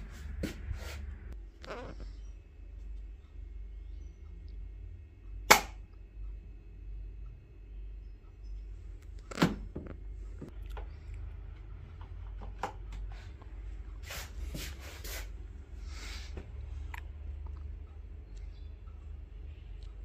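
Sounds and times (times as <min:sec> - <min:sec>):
low hum: 0:00.0 - 0:14.6, 0:15.3 - 0:20.0.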